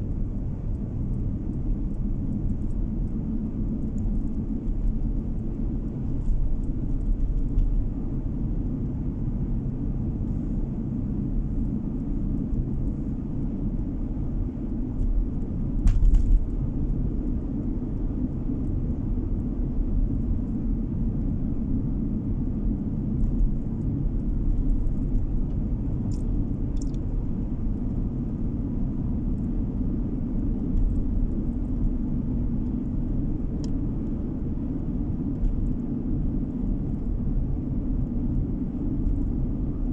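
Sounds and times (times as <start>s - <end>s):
car driving rumble from inside: 0.0s - 39.9s.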